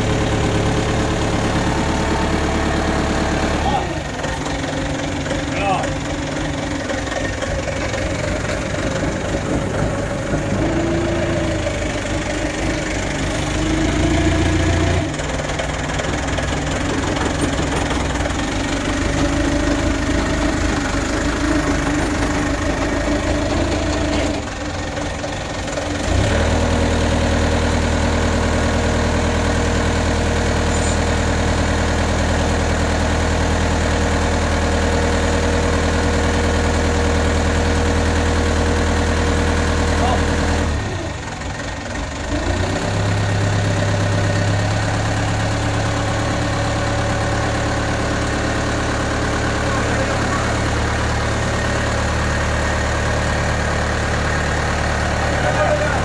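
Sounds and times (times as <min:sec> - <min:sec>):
forklift engine running: 0:00.0 - 0:56.0.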